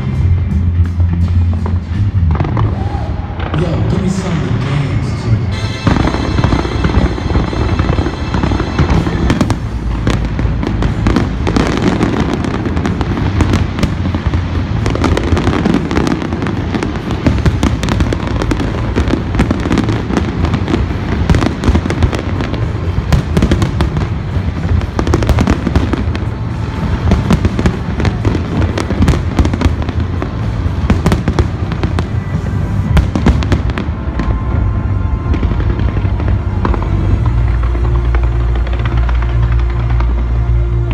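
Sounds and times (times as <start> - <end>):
fireworks bangs and crackles: 0.0 - 40.9
music playing: 0.0 - 40.9.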